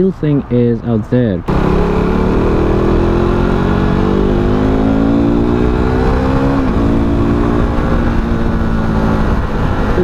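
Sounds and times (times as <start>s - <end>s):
motorcycle engine accelerating: 1.5s - 10.0s.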